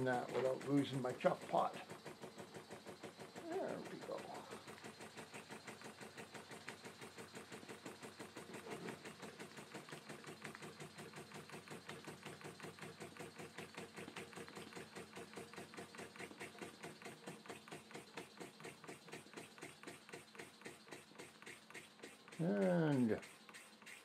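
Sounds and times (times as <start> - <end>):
model steam engine clicking: 0.0 - 24.0.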